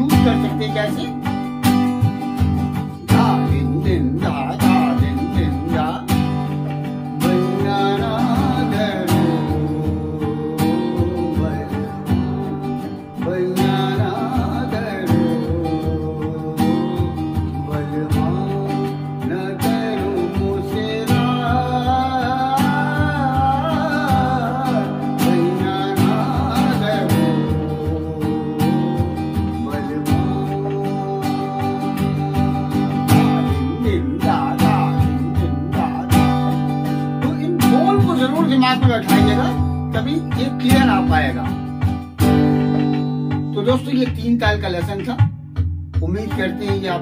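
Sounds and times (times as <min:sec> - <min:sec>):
acoustic guitar strumming: 0:00.0 - 0:47.0
man singing: 0:00.0 - 0:47.0.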